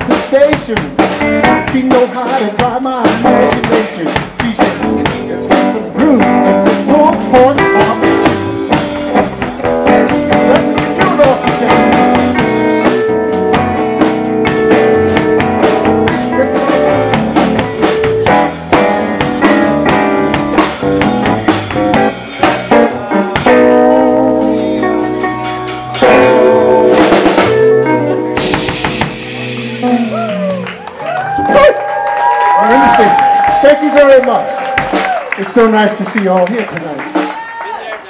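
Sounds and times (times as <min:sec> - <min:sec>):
live band playing instrumental: 0:00.0 - 0:38.0.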